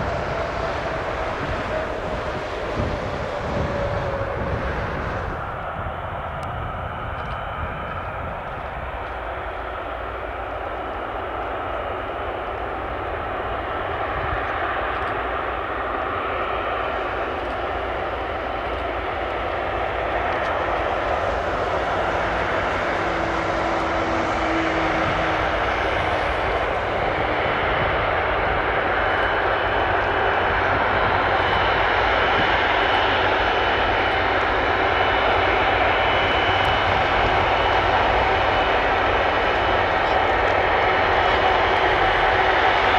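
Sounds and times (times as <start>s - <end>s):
jet engines rumbling and whining: 0.0s - 42.9s.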